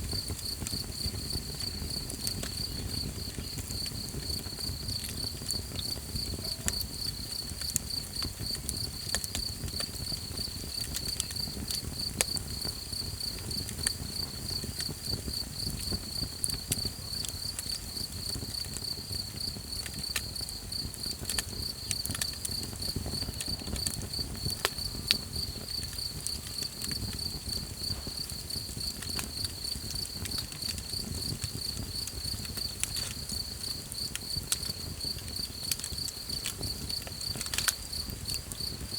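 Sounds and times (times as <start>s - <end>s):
campfire crackling and popping: 0.0s - 38.9s
crickets chirping: 0.0s - 38.9s.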